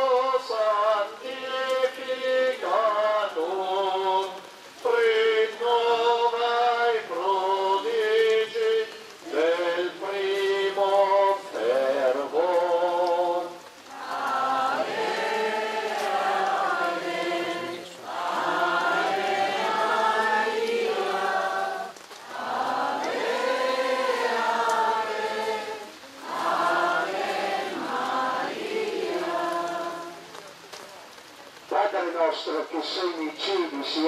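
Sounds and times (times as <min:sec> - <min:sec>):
group singing a hymn: 0:00.0 - 0:30.4.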